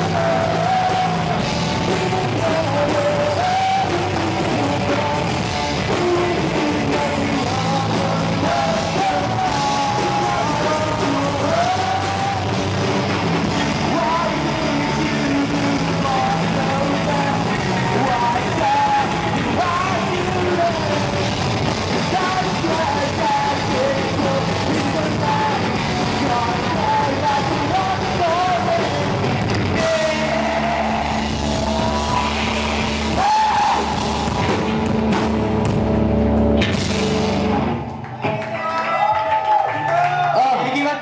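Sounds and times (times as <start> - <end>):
drum kit: 0.0 - 38.4
electric bass: 0.0 - 38.4
electric guitar: 0.0 - 39.7.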